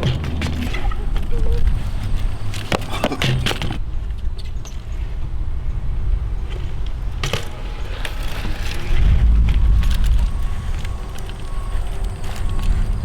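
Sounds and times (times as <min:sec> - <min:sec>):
bike tyres rolling on ramps: 0:00.0 - 0:13.0.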